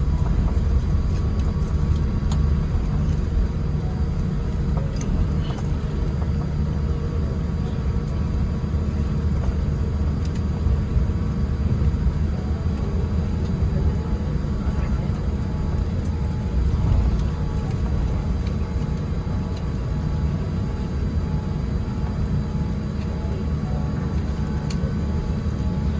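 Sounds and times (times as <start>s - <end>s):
airplane cabin low rumble: 0.0s - 25.9s.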